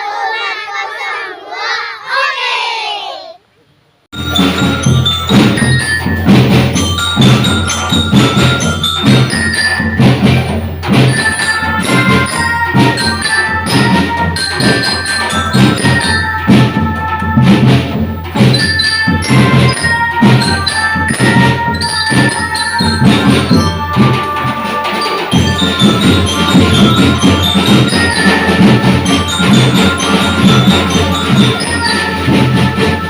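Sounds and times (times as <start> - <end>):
drums in quick steady rhythm: 4.1 - 33.0
held bell-like melody: 4.2 - 33.0.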